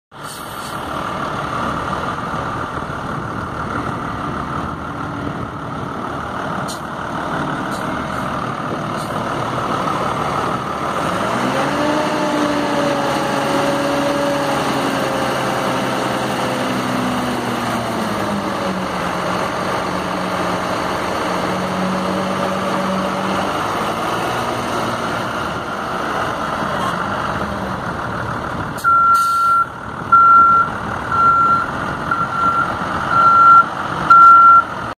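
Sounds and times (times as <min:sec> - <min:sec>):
diesel engine revving: 0:00.2 - 0:34.9.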